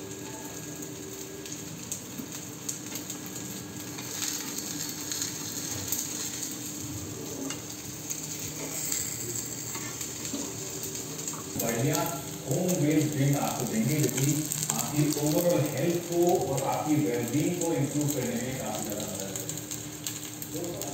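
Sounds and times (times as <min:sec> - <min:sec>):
batter sizzling in oil: 0:00.0 - 0:20.9.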